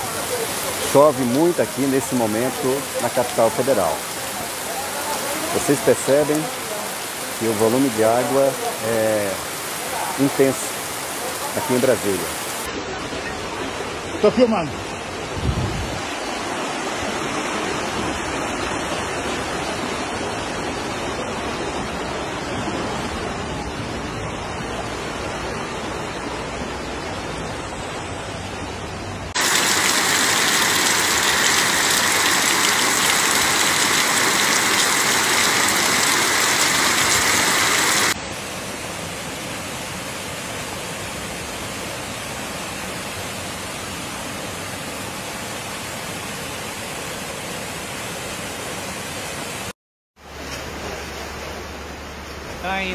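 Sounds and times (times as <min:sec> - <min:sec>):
heavy rain pouring: 0:00.0 - 0:45.7
rushing floodwater: 0:00.0 - 0:52.9.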